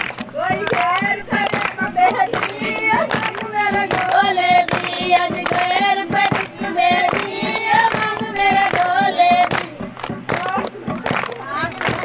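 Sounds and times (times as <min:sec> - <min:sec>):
high voices singing folk song: 0:00.0 - 0:12.0
steady percussive beat: 0:00.0 - 0:12.0.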